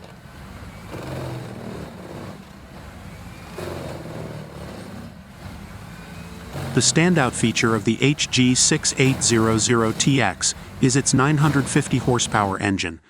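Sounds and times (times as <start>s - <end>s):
grinder engine drone: 0.0s - 12.7s.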